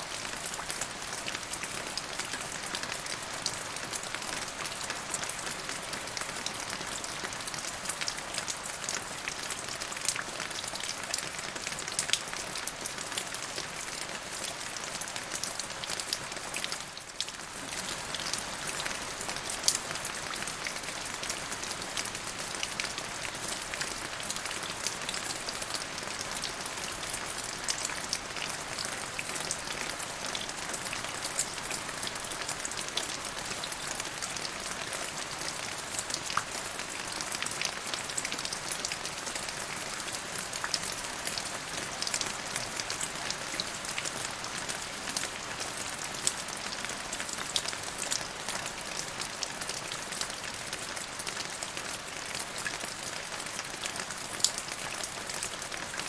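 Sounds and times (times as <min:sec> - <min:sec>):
rain drops tapping on a surface: 0:00.0 - 0:56.0.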